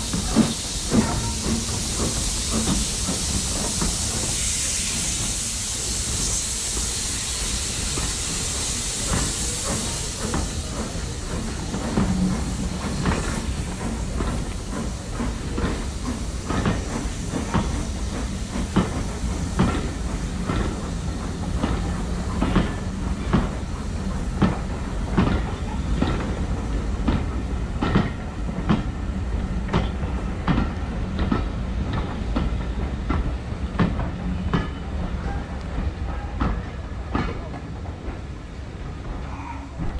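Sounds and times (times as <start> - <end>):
low rumble of moving train: 0.0 - 39.9
train wheels clickety-clack: 0.0 - 39.9.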